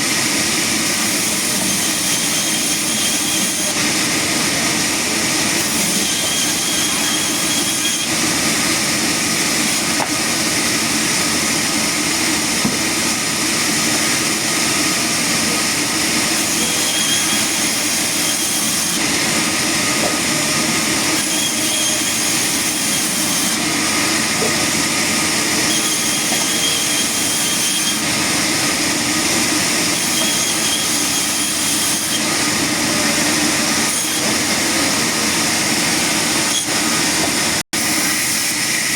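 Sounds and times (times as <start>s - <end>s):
sawmill machinery din: 0.0s - 38.9s.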